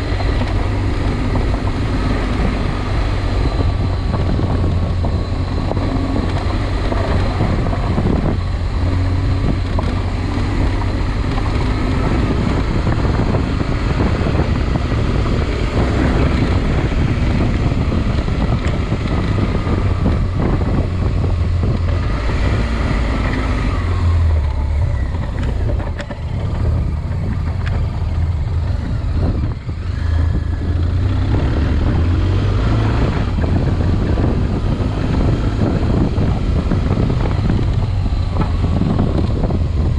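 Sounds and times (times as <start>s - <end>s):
vehicle engine under load: 0.0s - 39.9s
wind noise on microphone: 0.0s - 39.9s.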